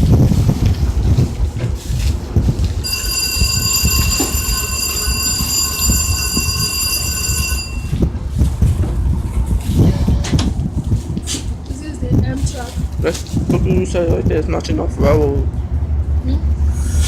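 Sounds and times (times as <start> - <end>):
low train rumble: 0.0 - 17.0.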